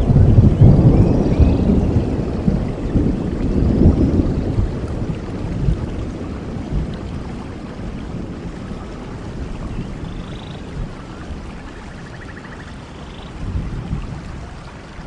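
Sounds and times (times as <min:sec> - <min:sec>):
low rumble of thunder: 0:00.0 - 0:15.0
steady rain: 0:00.0 - 0:15.0.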